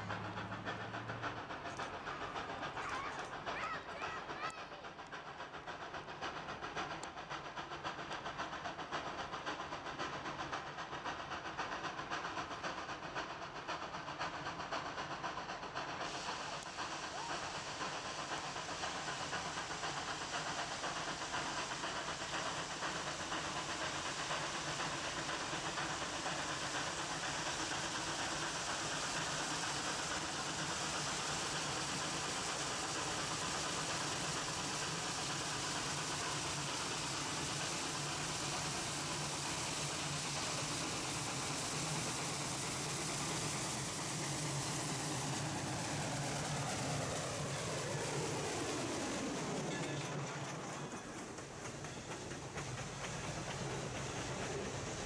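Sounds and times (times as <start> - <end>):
steam locomotive exhaust hiss: 0.0 - 55.0.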